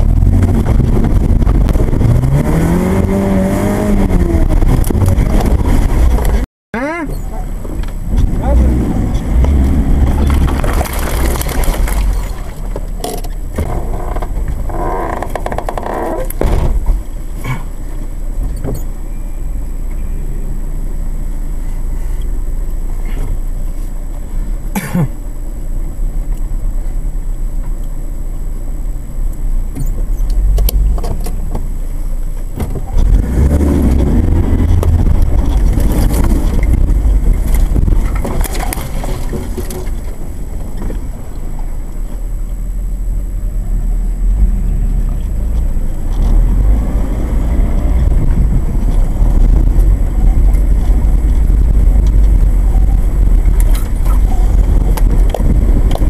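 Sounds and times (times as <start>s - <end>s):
vehicle engine rumbling inside cabin: 0.0s - 56.0s.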